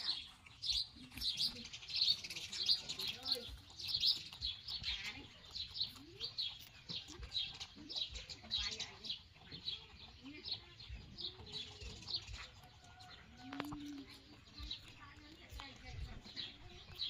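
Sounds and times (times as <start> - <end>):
rabbits crunching cucumber: 0.0 - 17.0.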